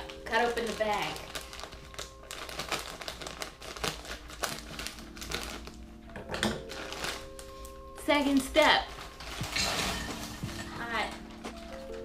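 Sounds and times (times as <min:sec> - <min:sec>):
scissors cutting plastic bag: 0:00.0 - 0:11.9
plastic bag crinkling: 0:00.0 - 0:12.0.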